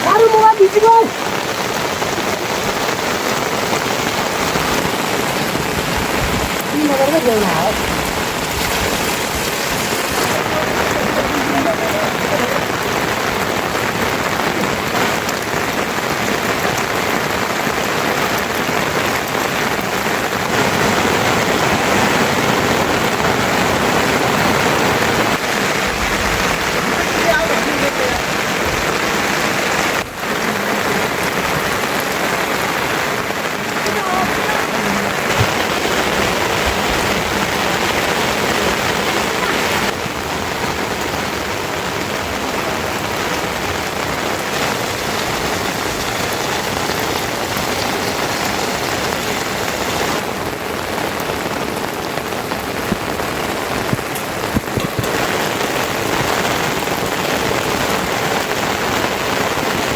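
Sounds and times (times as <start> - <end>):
rain falling steadily: 0.0 - 59.9.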